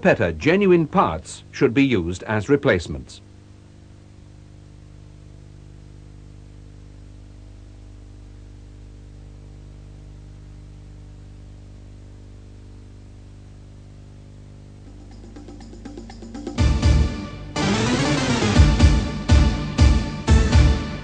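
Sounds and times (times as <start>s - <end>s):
constant hiss: 0.0s - 21.0s
electrical hum: 0.0s - 21.0s.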